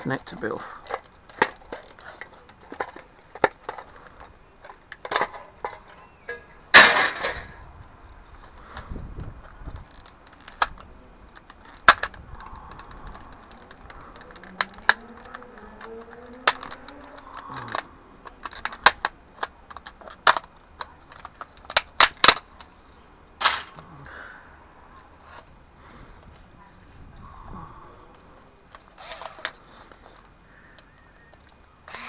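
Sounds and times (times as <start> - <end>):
plastic and metal parts clicking: 0.0 - 7.6, 8.2 - 23.9, 28.1 - 32.0
drawn-out creak: 0.0 - 32.0.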